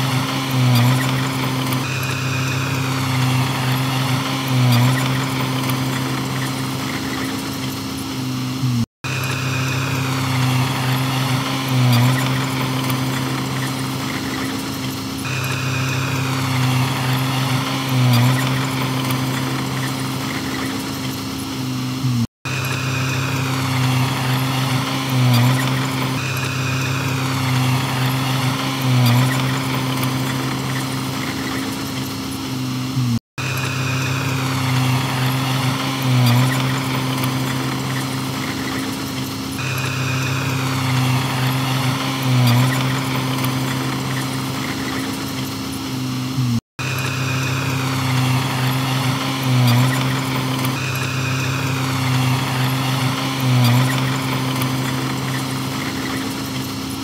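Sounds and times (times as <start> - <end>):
diesel machinery engine running: 0.0 - 57.0.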